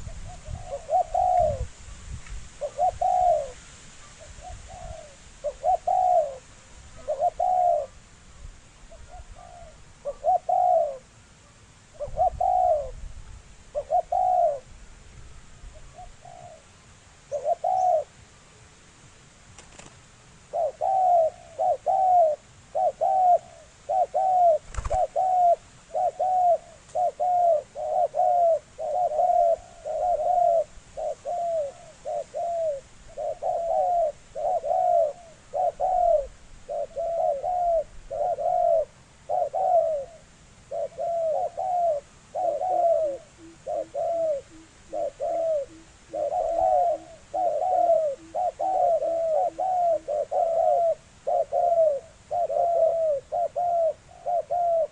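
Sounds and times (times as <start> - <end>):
dove cooing rapidly: 0.0 - 1.8, 2.6 - 8.0, 8.9 - 11.1, 11.9 - 13.1, 13.7 - 14.7, 15.7 - 18.1, 20.5 - 54.9.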